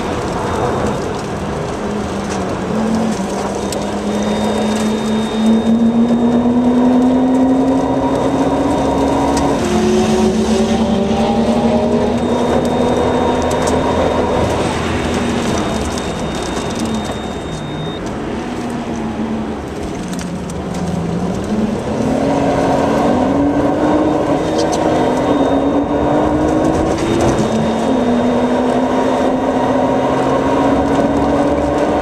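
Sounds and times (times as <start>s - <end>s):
car engine under load: 0.0s - 32.0s.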